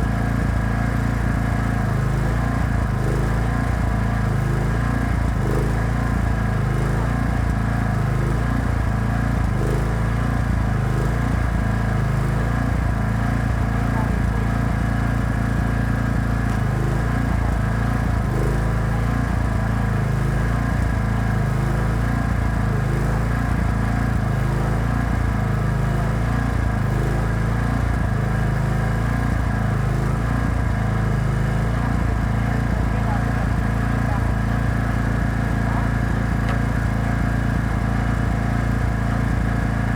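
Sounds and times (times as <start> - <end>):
welding generator engine running: 0.0 - 39.9.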